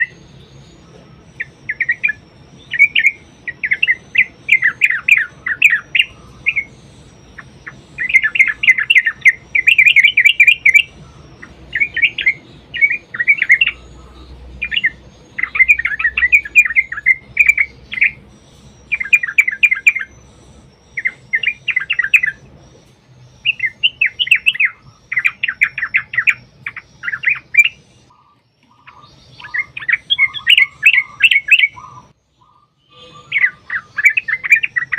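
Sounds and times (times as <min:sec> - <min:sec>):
birds chattering song: 0:00.0 - 0:34.9.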